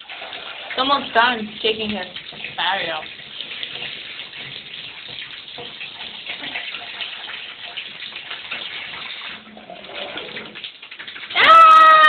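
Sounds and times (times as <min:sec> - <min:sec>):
tap water running into a bathtub: 0:00.0 - 0:12.0.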